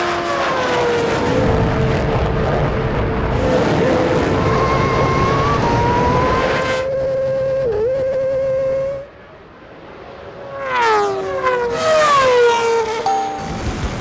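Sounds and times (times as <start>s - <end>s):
motorcycle passing with falling pitch: 0.0s - 9.2s, 10.3s - 14.0s.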